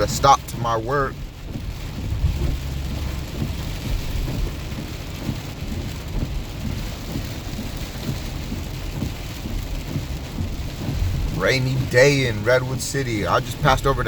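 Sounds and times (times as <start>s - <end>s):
heavy rain on a truck: 0.0s - 14.0s
low road rumble: 0.0s - 14.0s.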